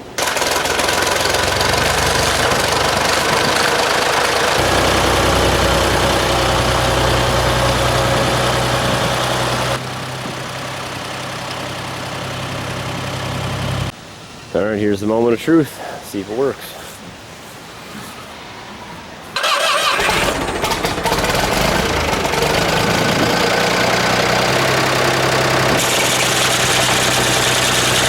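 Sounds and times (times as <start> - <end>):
tractor engine running: 0.0 - 13.9, 19.4 - 28.0.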